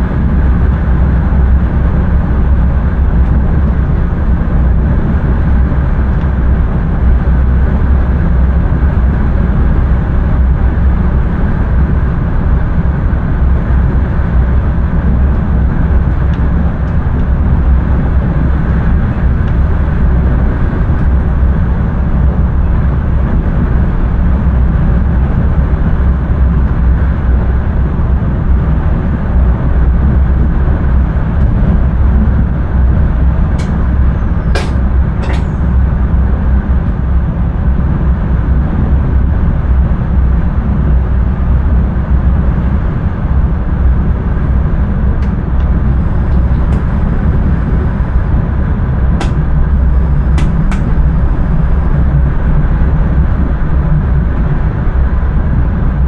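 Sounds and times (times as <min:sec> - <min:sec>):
train low rumble: 0:00.0 - 0:56.0.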